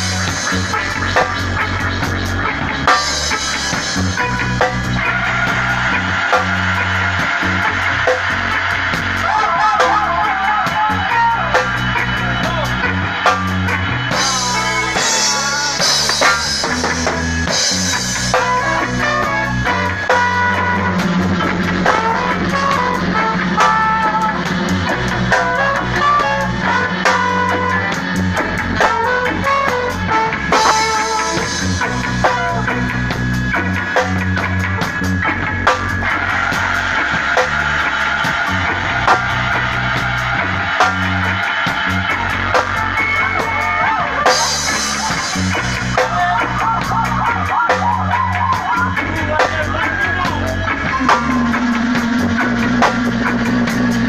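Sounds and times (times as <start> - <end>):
live band playing: 0.0 - 54.0
saxophone and horn melody: 0.0 - 54.0.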